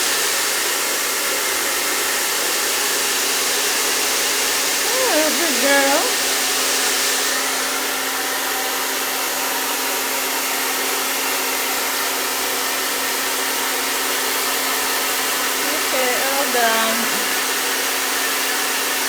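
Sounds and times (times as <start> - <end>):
blow dryer running: 0.0 - 18.9.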